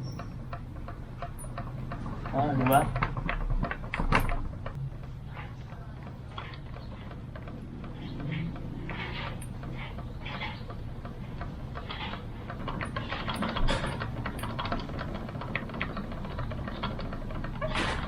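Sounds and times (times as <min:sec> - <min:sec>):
scooter creaking and clicking: 0:00.0 - 0:18.0.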